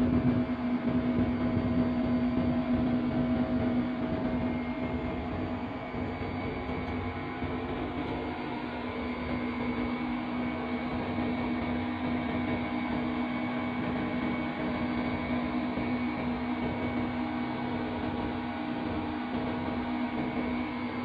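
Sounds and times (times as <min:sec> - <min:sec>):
locomotive cab drone: 0:00.0 - 0:21.0
train running noise: 0:00.0 - 0:21.0.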